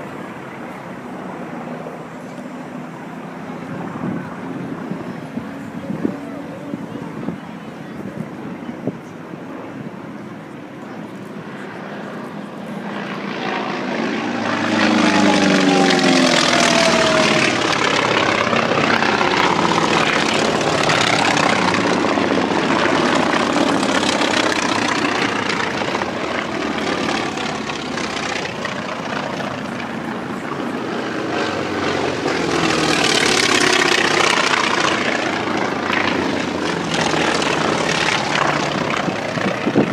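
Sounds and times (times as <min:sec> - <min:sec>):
airplanes flying low past: 0:00.0 - 0:39.9.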